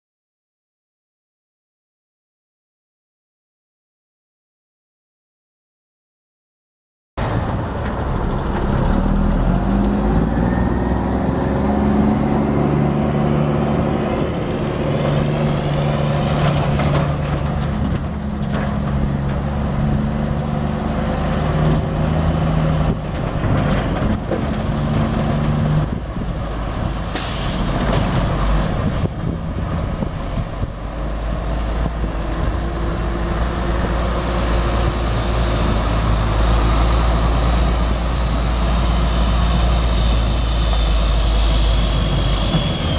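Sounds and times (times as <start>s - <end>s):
diesel truck engine running: 7.2s - 42.9s.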